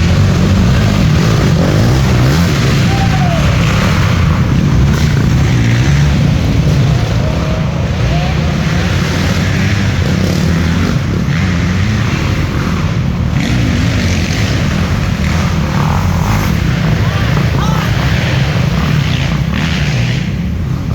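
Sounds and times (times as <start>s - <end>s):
dirt bike engines revving: 0.0s - 20.9s.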